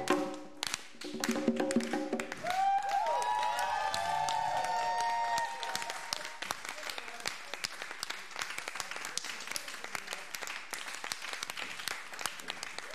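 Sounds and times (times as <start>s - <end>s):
audience applauding: 0.6s - 12.9s.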